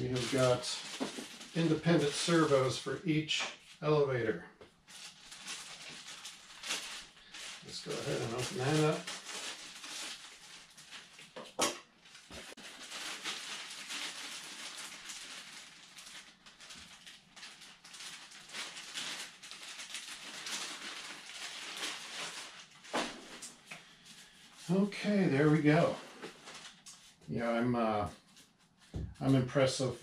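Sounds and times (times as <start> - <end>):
plastic bag crinkling: 0.0 - 3.8, 4.9 - 27.2.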